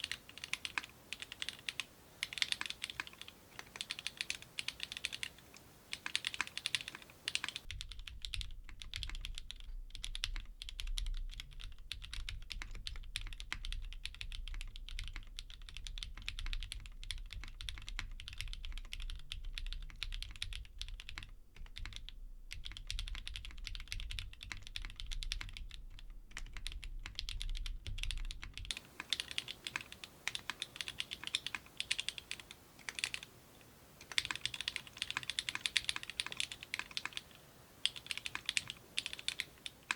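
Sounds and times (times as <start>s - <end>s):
fast mechanical keyboard typing: 0.0s - 33.3s, 34.0s - 39.9s.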